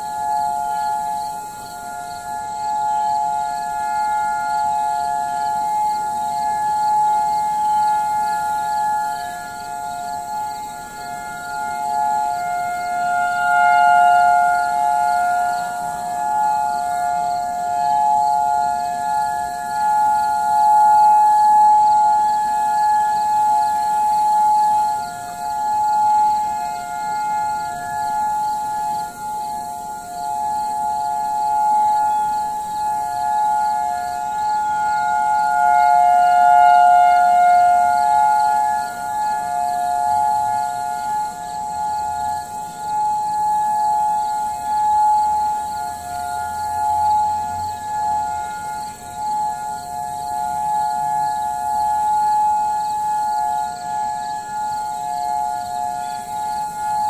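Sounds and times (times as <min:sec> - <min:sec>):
warning sirens two-pitch tone: 0:00.0 - 0:57.0.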